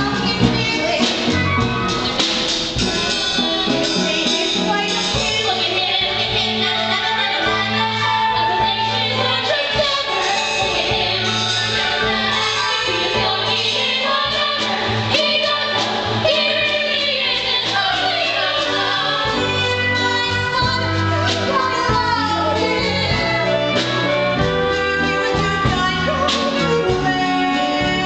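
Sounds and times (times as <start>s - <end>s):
instrumental accompaniment with bass: 0.0s - 28.0s
voices singing: 0.0s - 28.0s.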